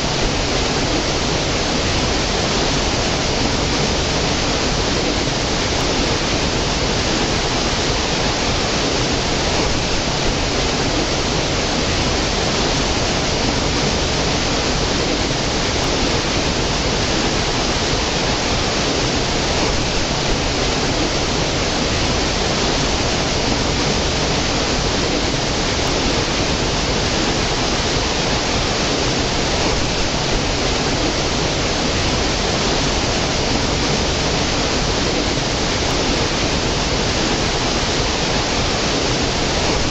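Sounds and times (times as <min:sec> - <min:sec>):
stream cascading over rocks: 0:00.0 - 0:39.9.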